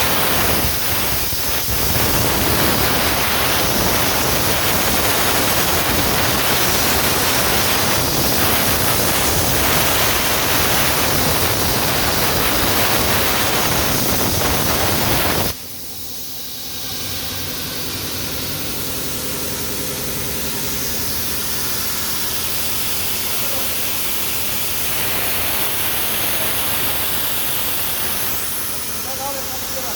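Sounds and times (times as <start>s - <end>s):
plasma cutter hissing: 0.0s - 29.9s.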